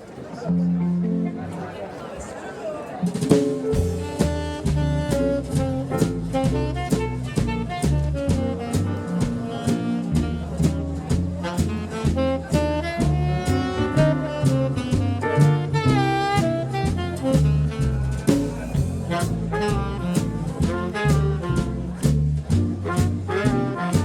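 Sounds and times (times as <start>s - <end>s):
walking bass: 0.5s - 1.6s, 3.1s - 24.0s
drum kit beat: 3.1s - 24.0s
saxophone: 3.8s - 24.0s.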